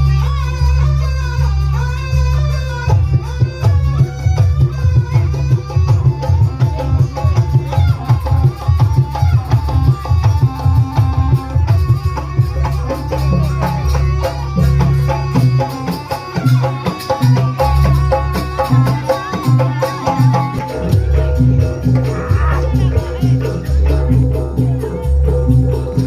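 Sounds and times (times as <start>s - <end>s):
melodic instruments: 2.5s - 26.0s
fast dense drumming: 2.8s - 26.0s.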